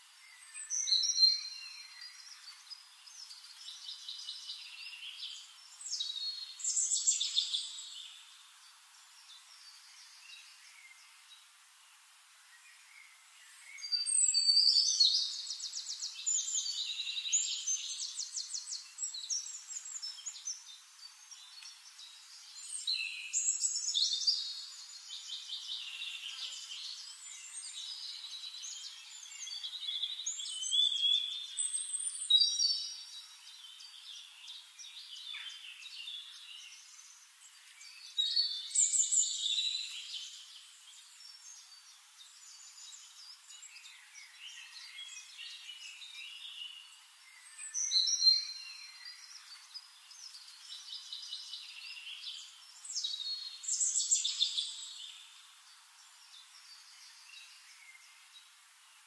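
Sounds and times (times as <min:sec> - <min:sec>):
songbird trilling and chirping: 0:00.3 - 0:08.4, 0:13.0 - 0:58.3.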